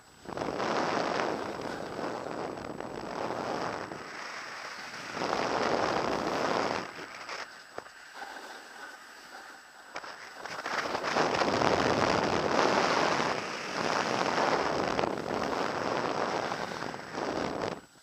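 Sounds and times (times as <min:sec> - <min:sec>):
skis scraping over snow: 0:00.0 - 0:18.0
wind on microphone: 0:00.0 - 0:18.0.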